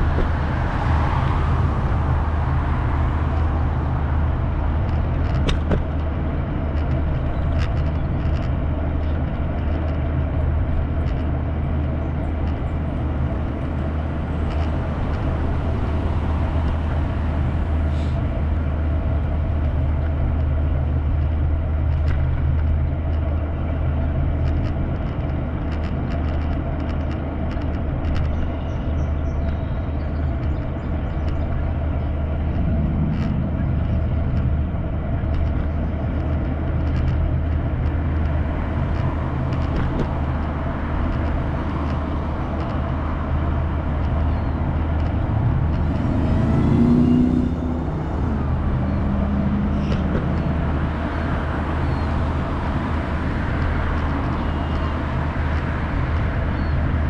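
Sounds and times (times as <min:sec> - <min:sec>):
low rumble of riding on pavement: 0:00.0 - 0:57.0
small clicks from bumps: 0:01.6 - 0:57.0.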